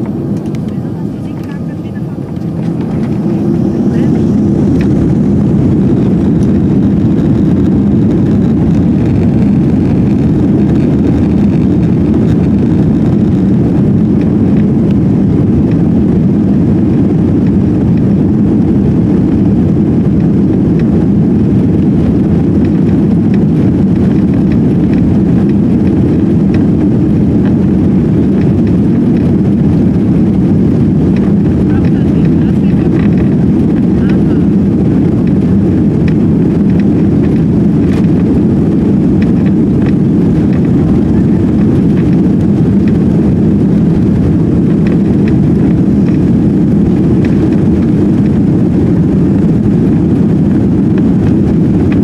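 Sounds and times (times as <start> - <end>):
jet engines at takeoff thrust: 0.0 - 52.0
wheels rumbling on runway: 0.0 - 52.0.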